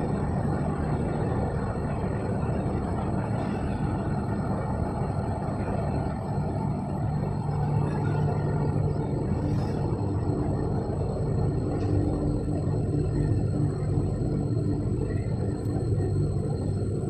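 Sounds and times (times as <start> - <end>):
constant hum: 0.0 - 17.0
low rumbling hall noise: 0.0 - 17.0.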